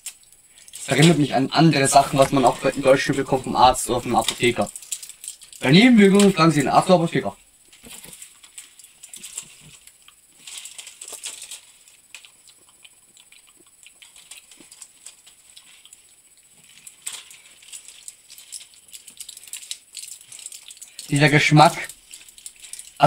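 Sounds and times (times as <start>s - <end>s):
plastic candy wrapper crinkling: 0.0s - 23.0s.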